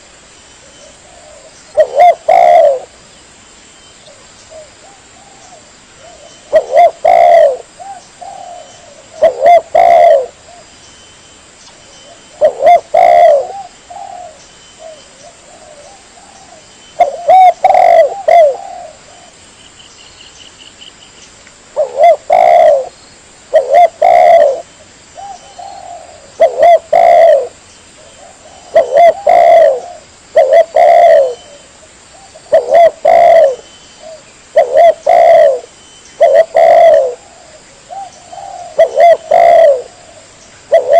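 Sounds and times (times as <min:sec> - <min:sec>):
dove cooing: 0:00.8 - 0:03.0, 0:04.1 - 0:10.7, 0:12.0 - 0:19.4, 0:21.8 - 0:40.9.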